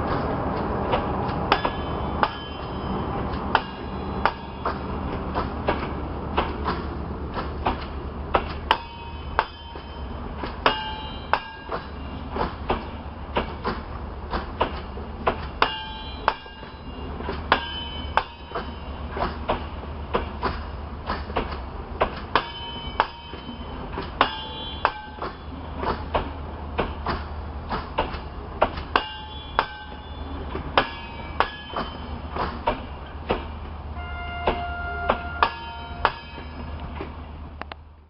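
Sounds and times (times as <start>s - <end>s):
low train rumble: 0.0s - 38.0s
train wheels knocking over rail joints: 3.3s - 33.8s.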